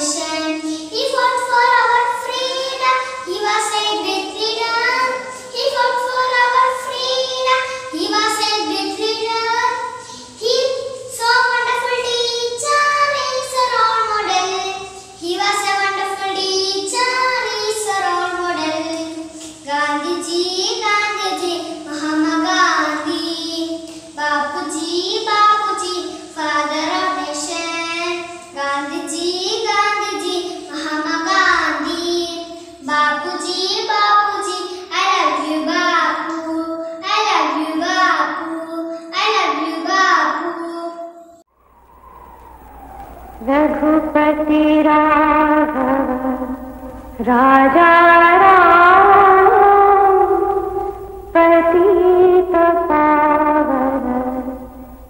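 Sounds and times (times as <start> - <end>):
girl singing: 0.0 - 41.4, 43.4 - 54.8.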